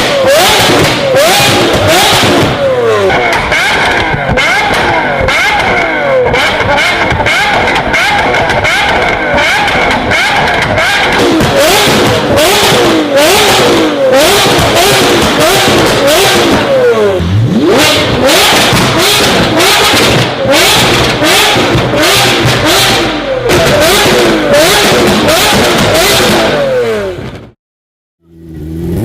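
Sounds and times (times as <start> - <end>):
exhaust pops and crackles: 0.0 - 16.9, 17.6 - 26.6
car engine revving: 0.0 - 27.6, 28.2 - 29.0.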